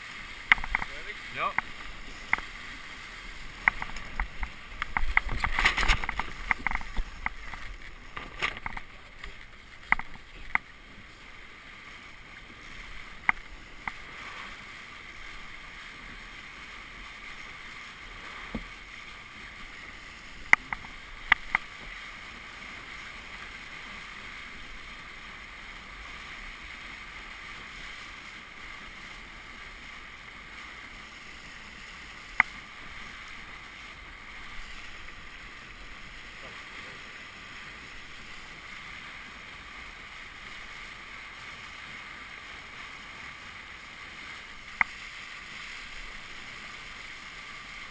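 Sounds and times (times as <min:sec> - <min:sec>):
water rushing past hull: 0:00.0 - 0:47.9.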